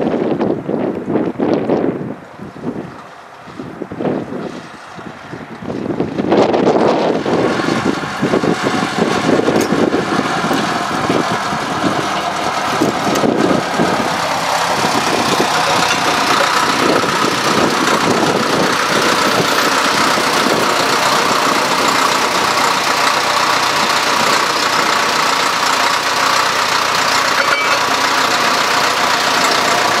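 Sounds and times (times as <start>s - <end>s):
locomotive diesel engine running: 0.0s - 30.0s.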